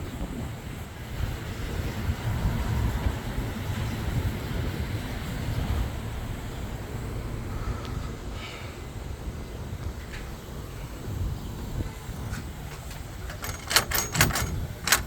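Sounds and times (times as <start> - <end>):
passing traffic: 0.0 - 15.0
wind rumbling on microphone: 0.0 - 15.0.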